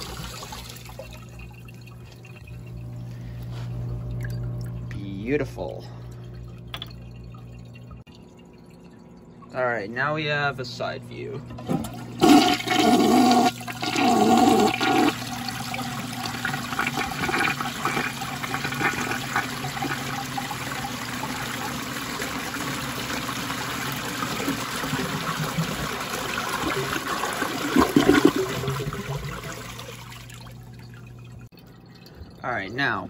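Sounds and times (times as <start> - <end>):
toilet flushing: 0.0 - 8.1, 10.8 - 33.0.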